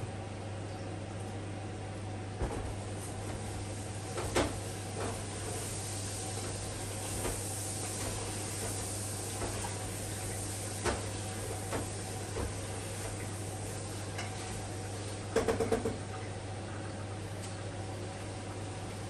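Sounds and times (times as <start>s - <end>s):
steady hum and hiss: 0.0s - 19.0s.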